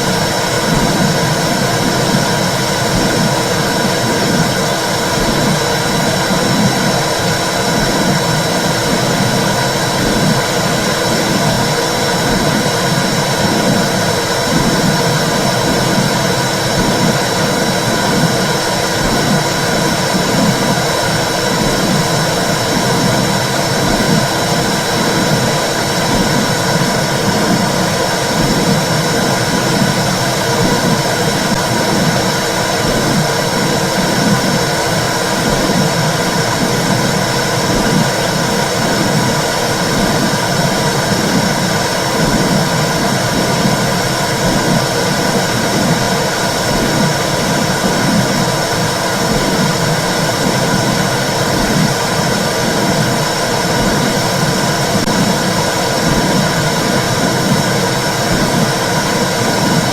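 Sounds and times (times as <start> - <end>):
steady whooshing noise: 0.0 - 59.9
low heartbeat pulse: 0.5 - 34.8, 35.4 - 45.0, 49.3 - 52.0, 52.6 - 59.9.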